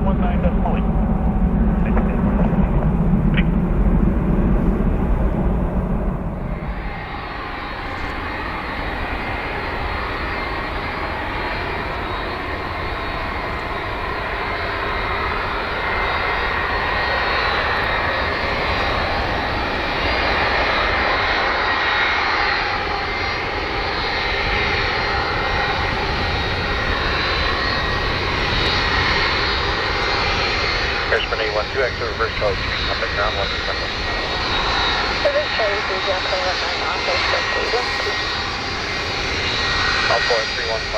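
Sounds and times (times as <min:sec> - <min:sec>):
airliner engines rushing: 0:00.0 - 0:40.9.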